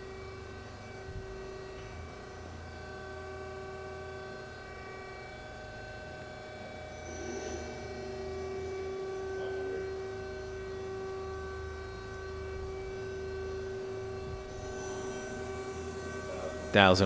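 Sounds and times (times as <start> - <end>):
lathe spindle whine: 0.0 - 17.0
machine hum: 0.0 - 17.0.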